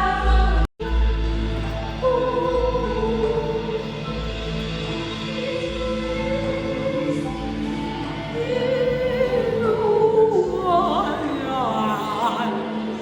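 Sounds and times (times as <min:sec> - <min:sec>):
choir holding long notes: 0:00.0 - 0:13.0.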